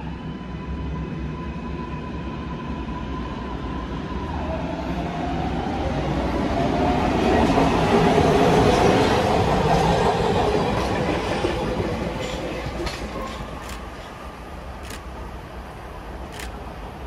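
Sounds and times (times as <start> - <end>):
train approaching: 0.0 - 17.0.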